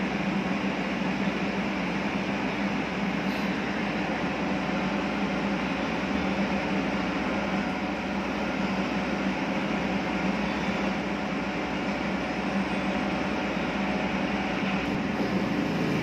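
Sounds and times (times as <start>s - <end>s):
diesel generator running: 0.0s - 16.0s.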